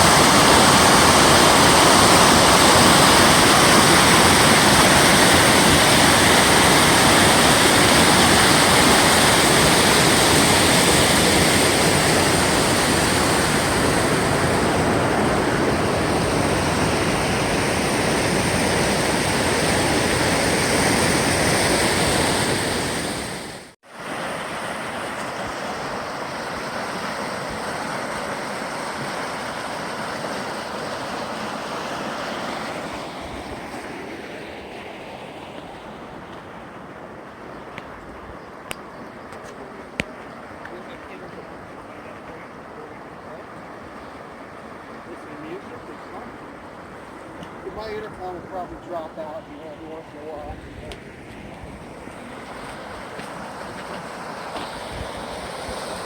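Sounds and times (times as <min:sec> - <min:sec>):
waterfall roaring: 0:00.0 - 0:33.3, 0:39.4 - 0:56.0
quieter water rush: 0:00.0 - 0:56.0.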